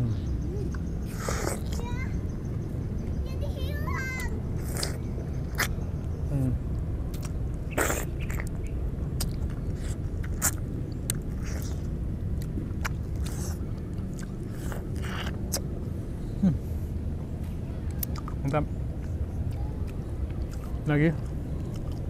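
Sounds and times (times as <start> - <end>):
people chewing juicy oranges: 0.0 - 3.0, 4.2 - 22.0
steady low rumble: 0.0 - 22.0.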